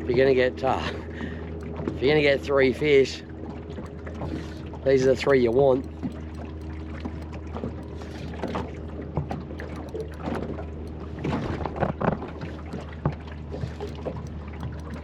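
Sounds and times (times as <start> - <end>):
low hum: 0.0 - 15.0
water splashing: 1.0 - 15.0.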